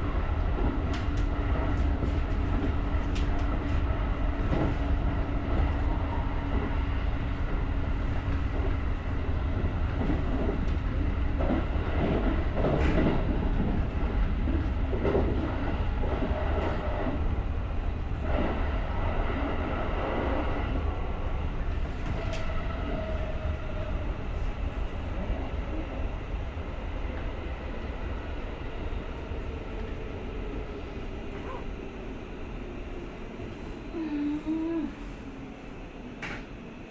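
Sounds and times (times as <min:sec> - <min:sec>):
train rumbling along track: 0:00.0 - 0:36.9.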